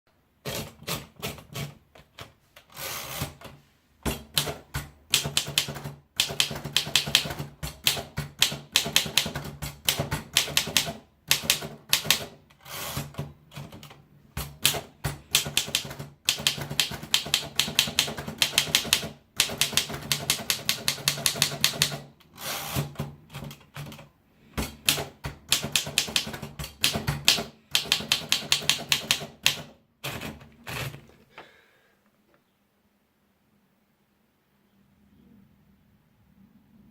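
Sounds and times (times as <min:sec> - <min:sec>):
manual typewriter typing: 0:00.4 - 0:31.0.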